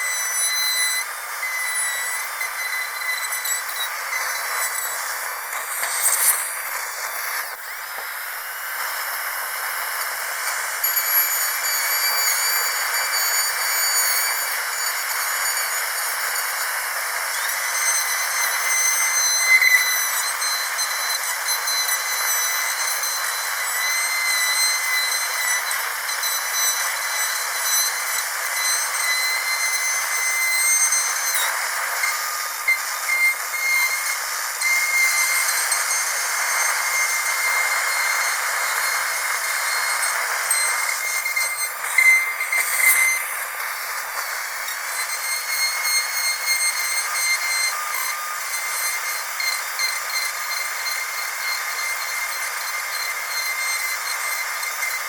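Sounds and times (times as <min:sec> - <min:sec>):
dental drill whining: 0:00.0 - 0:55.0.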